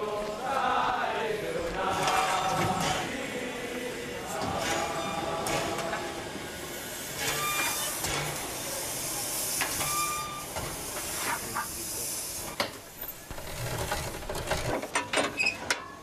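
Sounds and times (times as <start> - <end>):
steam hissing: 1.4 - 14.3.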